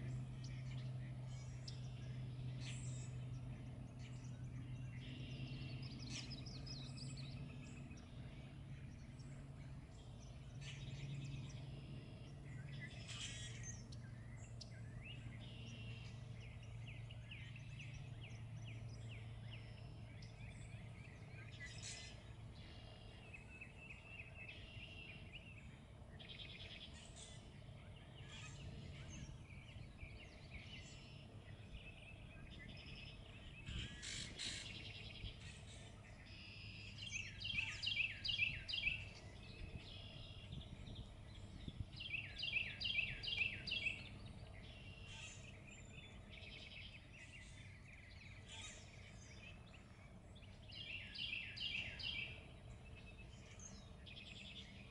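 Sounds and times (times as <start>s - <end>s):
songbirds chirping and trilling: 0.0s - 54.9s
steady low hum: 0.0s - 54.9s.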